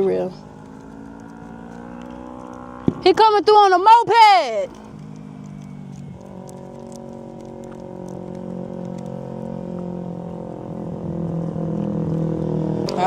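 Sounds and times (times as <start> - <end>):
moped engine running: 0.0 - 13.0.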